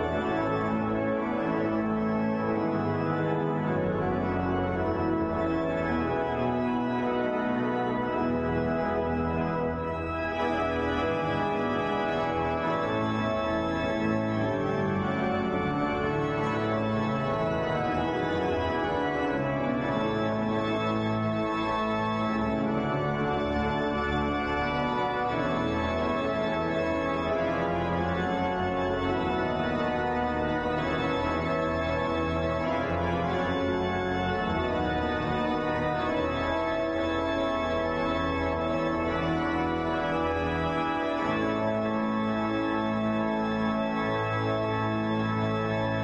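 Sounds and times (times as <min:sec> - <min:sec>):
organ playing slow chords: 0:00.0 - 0:46.0.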